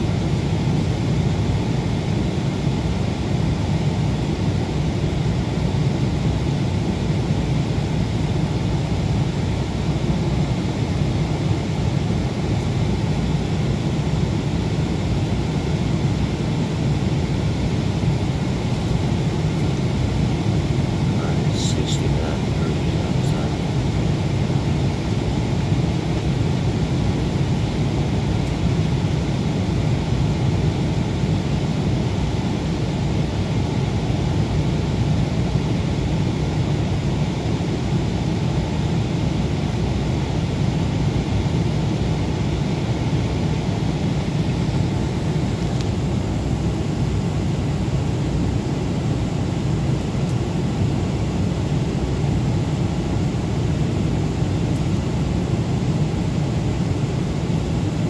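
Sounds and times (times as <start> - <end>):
airplane cabin engine rush: 0.0 - 58.0.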